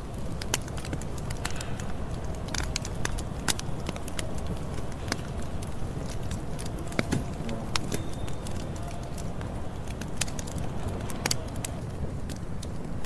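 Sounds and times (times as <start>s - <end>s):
burning wood crackling and popping: 0.0s - 13.0s
campfire flames rumbling: 0.0s - 13.0s.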